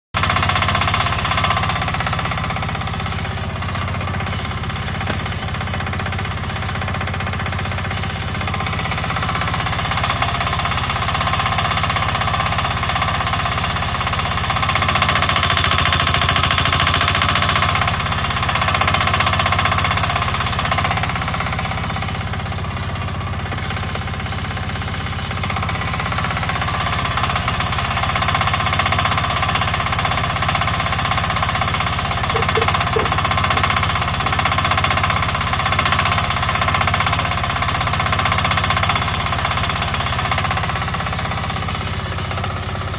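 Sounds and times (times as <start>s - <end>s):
diesel engine clattering: 0.2s - 42.9s.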